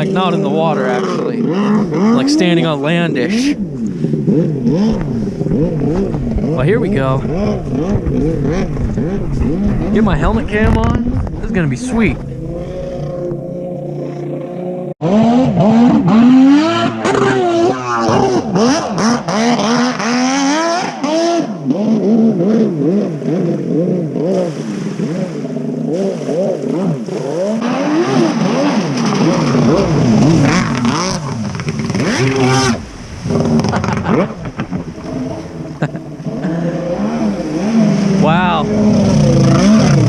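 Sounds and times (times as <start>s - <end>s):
jet ski engine revving: 0.0s - 40.0s.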